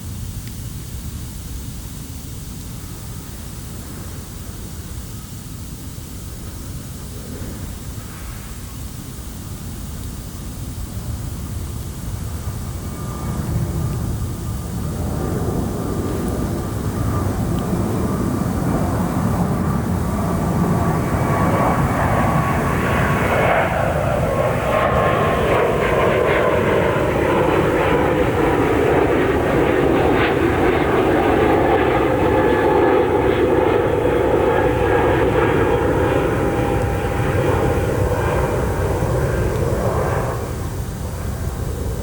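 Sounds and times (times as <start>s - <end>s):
airliner passing overhead: 2.8s - 42.0s.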